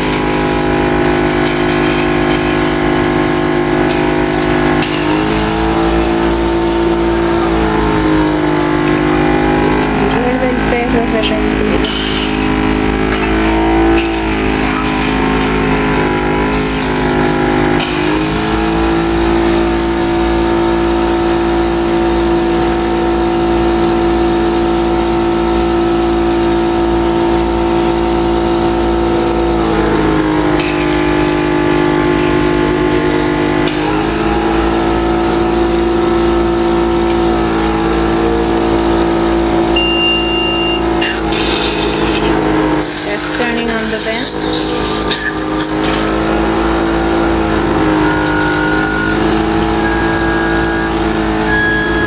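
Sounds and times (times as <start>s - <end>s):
machine motor running: 0.0s - 52.0s.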